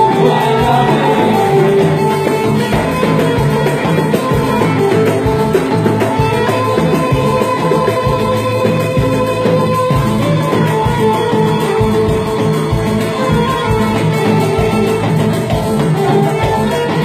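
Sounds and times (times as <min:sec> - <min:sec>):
bowed violin: 0:00.0 - 0:17.0
drums keeping a steady beat: 0:00.0 - 0:17.0
keyboard: 0:00.0 - 0:17.0
plucked lute: 0:00.0 - 0:17.0.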